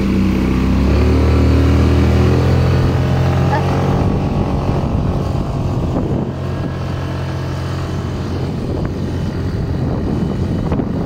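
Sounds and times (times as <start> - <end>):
scooter engine humming: 0.0 - 11.0
wind rumbling on microphone: 0.0 - 11.0.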